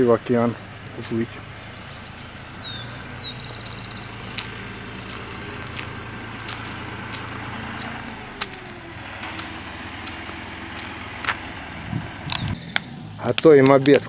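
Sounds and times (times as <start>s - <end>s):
birds chirping: 0.0s - 14.0s
motor engine humming: 0.0s - 14.0s.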